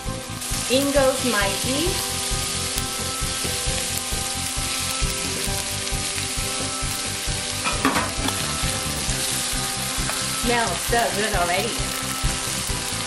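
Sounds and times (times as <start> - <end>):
beef sizzling in a wok: 0.0 - 13.0.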